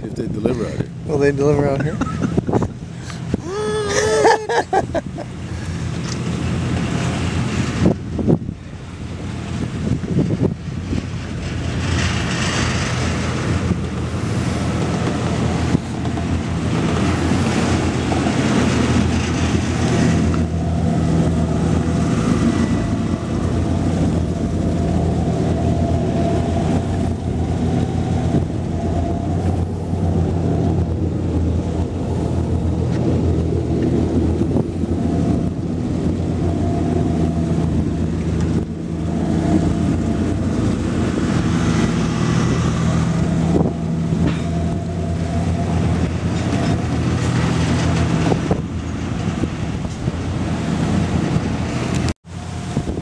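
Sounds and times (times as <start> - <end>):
boat engine humming: 0.0 - 53.0
water rushing along hull: 0.0 - 53.0
wind buffeting microphone: 0.0 - 53.0.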